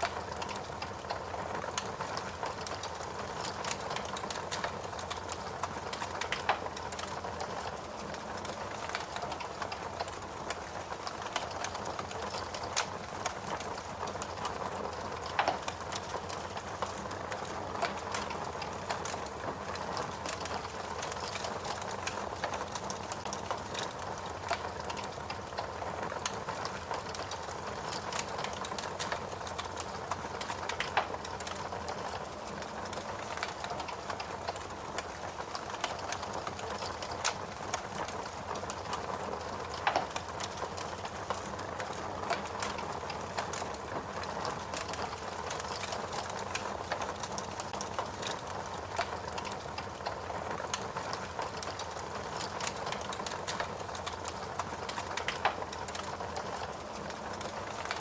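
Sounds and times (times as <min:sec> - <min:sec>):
wood fire crackling: 0:00.0 - 0:58.0
fire pops: 0:08.4 - 0:32.3, 0:32.9 - 0:56.8.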